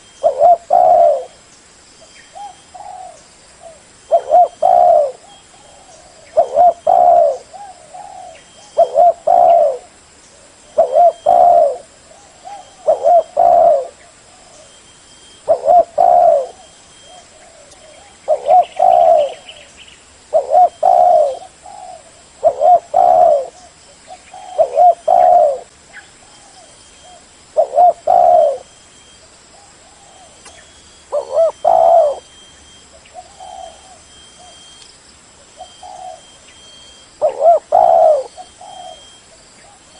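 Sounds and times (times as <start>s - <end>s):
dove cooing: 0.0s - 1.4s, 2.4s - 19.7s, 20.3s - 28.7s, 29.6s - 32.3s, 32.9s - 34.8s, 35.5s - 39.9s.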